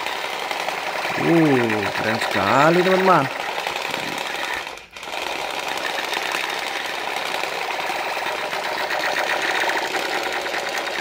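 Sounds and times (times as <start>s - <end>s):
toy blaster electronic rapid-fire: 0.0s - 11.0s.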